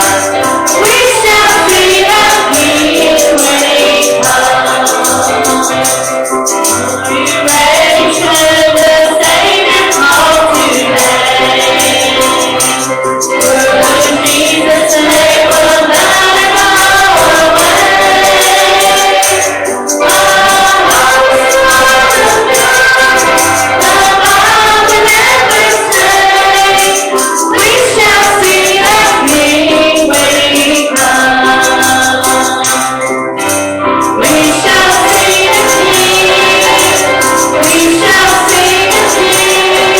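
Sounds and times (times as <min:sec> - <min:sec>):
congregation singing a hymn: 0:00.0 - 0:39.9
tambourine shaking: 0:00.0 - 0:39.9.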